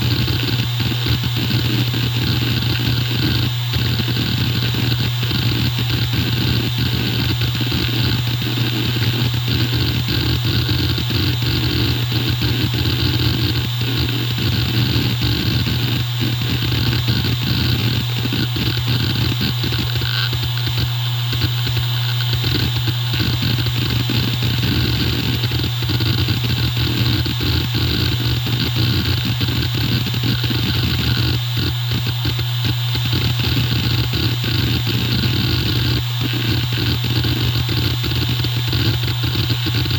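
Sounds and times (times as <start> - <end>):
hard drive heads rattling chatter: 0.0 - 39.9
hard drive spindle hum: 0.0 - 39.9.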